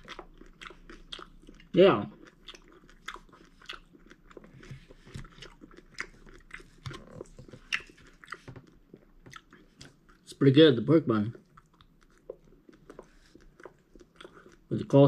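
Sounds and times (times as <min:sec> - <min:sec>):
person chewing food: 0:00.0 - 0:10.3, 0:11.3 - 0:15.0.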